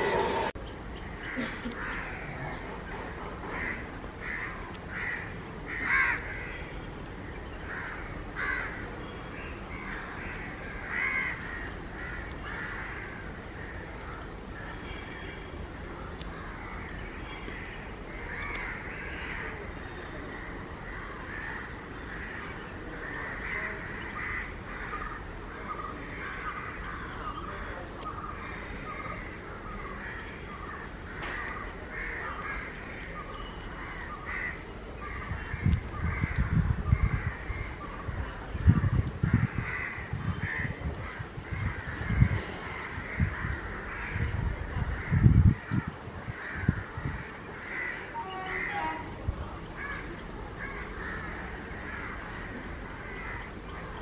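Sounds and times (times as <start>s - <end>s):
birds calling: 0.0s - 54.0s.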